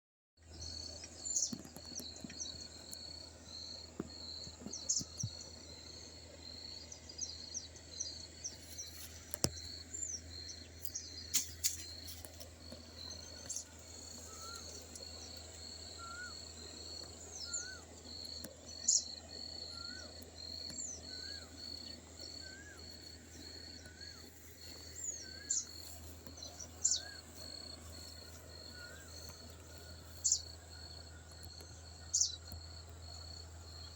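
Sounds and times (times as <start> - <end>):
insects trilling: 0.6 - 33.9
bird chirps: 6.7 - 33.9.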